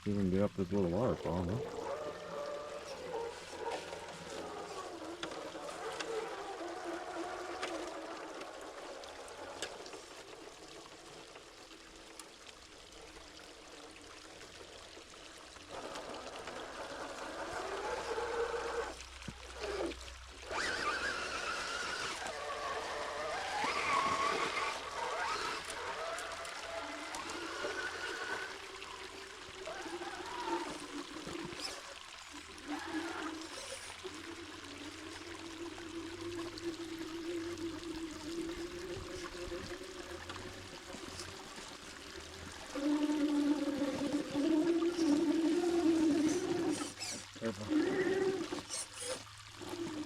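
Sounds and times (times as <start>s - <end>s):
small waterfall trickling: 0.0s - 50.0s
toy car motor whine: 0.4s - 11.2s, 15.6s - 50.0s.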